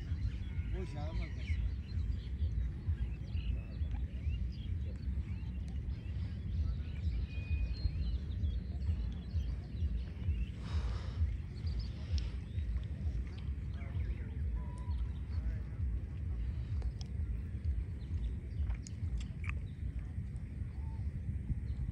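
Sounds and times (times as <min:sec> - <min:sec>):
faint bird chirps: 0:00.0 - 0:21.9
wind rumble on microphone: 0:00.0 - 0:21.9.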